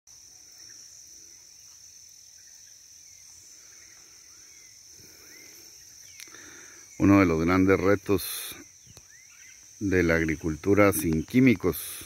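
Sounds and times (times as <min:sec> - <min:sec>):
high-pitched insect chorus: 0:00.1 - 0:12.0
faint bird chirps: 0:00.2 - 0:12.0.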